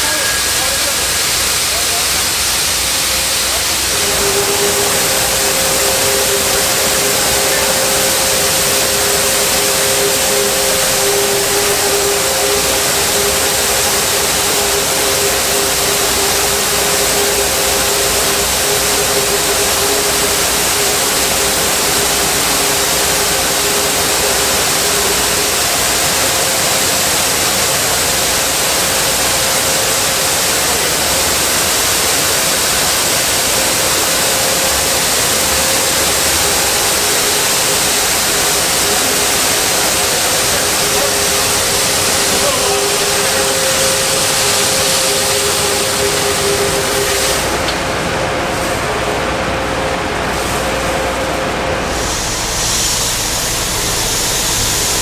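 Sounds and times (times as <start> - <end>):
grain pouring with rushing hiss: 0.0 - 55.0
machine whine: 0.0 - 55.0.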